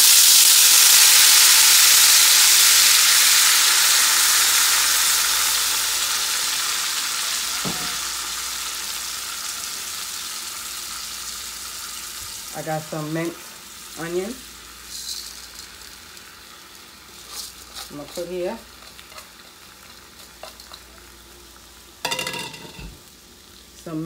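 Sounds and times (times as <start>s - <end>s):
wine sizzling in skillet: 0.0s - 24.0s.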